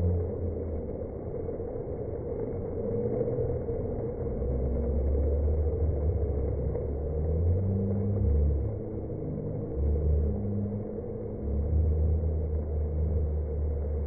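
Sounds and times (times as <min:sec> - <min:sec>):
slowed deep smeared rumble: 0:00.0 - 0:14.0.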